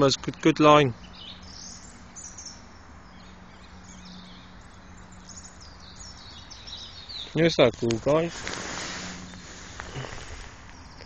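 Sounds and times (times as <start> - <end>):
birds chirping and singing: 0.0 - 11.0
steady low hum: 0.0 - 11.0.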